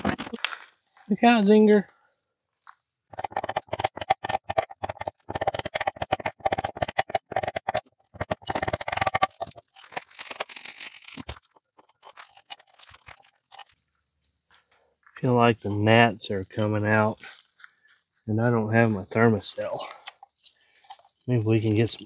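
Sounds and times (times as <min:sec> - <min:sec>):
crickets chirping: 0:00.1 - 0:22.0.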